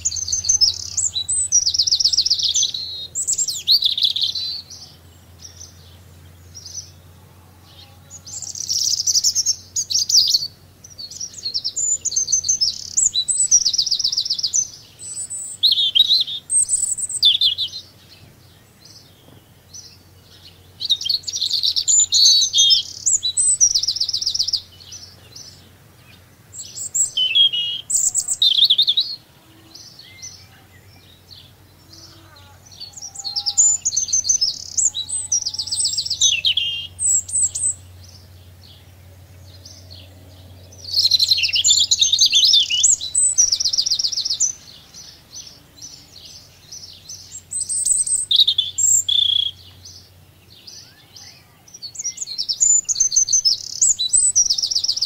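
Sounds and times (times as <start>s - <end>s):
songbird trilling and chirping: 0.0s - 55.0s.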